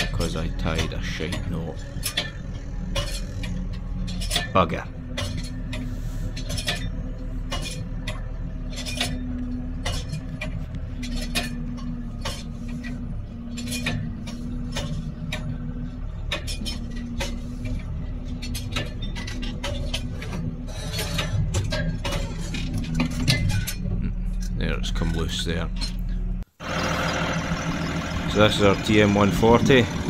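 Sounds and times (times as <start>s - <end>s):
tractor engine running: 0.0s - 30.0s
metallic clinks and rattles: 1.8s - 26.2s.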